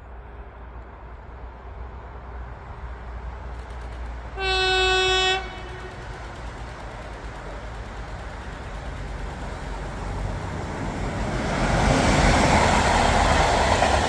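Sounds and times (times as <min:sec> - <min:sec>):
freight train passing: 0:00.0 - 0:14.0.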